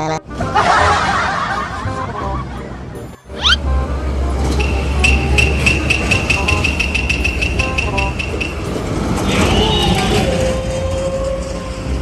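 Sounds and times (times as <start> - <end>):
large vehicle engine rumble: 0.2 - 12.0
road noise: 0.2 - 12.0.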